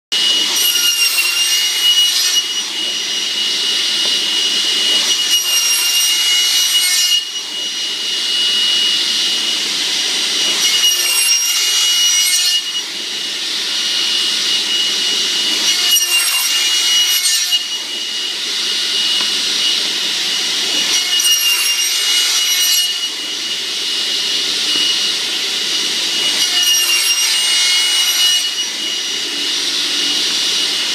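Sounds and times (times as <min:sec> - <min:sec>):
saw blade whining: 0:00.1 - 0:30.9
saw cutting through wooden dowels: 0:00.1 - 0:30.9.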